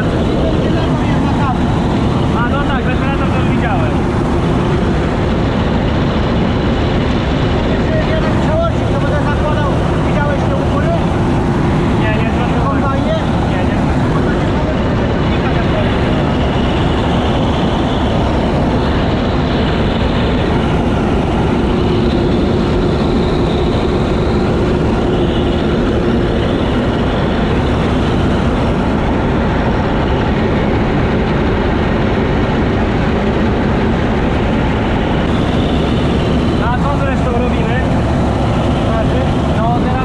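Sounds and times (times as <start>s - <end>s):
combine harvester engine drone: 0.0s - 40.0s.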